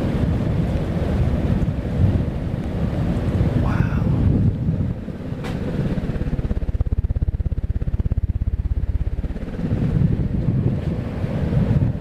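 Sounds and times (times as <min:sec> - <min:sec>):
ceiling fan draft buffeting microphone: 0:00.0 - 0:12.0.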